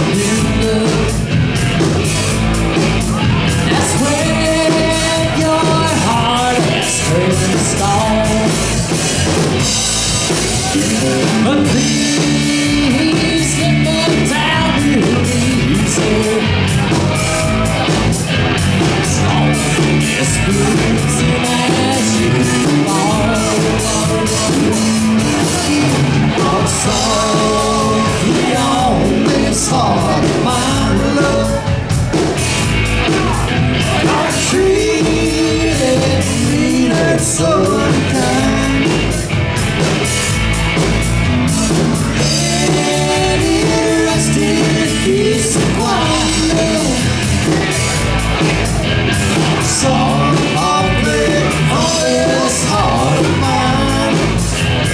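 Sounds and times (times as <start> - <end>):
lead singer singing: 0.0 - 1.7, 2.8 - 39.4, 41.5 - 54.9
bass guitar: 0.0 - 54.9
drum kit: 0.0 - 54.9
electric guitar: 0.0 - 54.9.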